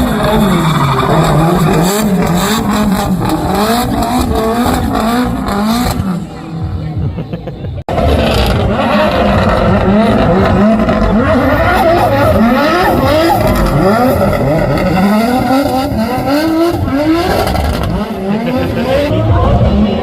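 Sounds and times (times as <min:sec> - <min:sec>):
car engine revving hard: 0:00.0 - 0:06.8, 0:07.9 - 0:20.0.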